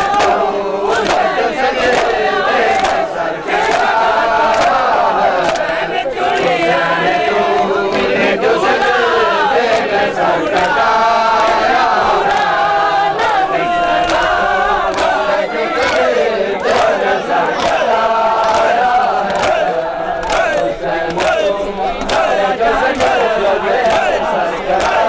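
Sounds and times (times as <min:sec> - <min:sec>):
hands slapping chests: 0:00.0 - 0:06.7, 0:09.7 - 0:25.0
men chanting together: 0:00.0 - 0:25.0.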